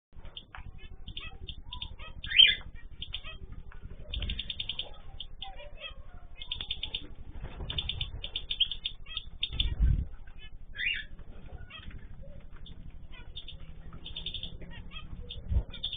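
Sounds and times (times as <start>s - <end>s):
small birds chirping: 0.2s - 15.9s
wings flapping: 0.2s - 15.9s
loud sweeping bird call: 0.4s - 15.9s.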